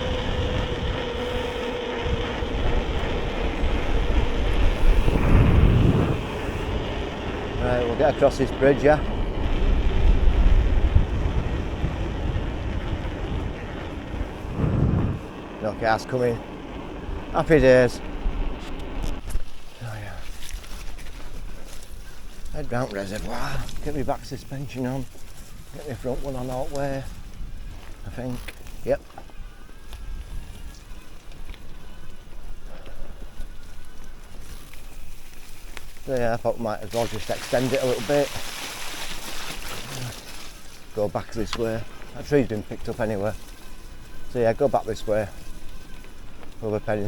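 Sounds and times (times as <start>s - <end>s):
wind buffeting microphone: 0.0s - 19.7s, 20.5s - 40.1s
electric bike rumbling on rough ground: 0.0s - 47.0s.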